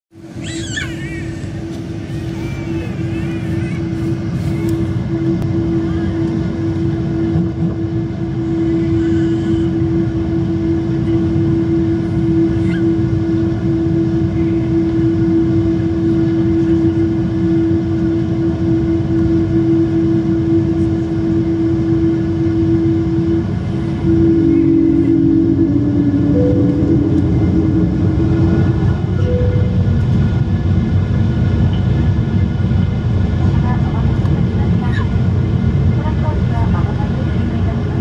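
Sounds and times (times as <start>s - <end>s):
idling jet engines hum: 0.1s - 38.0s.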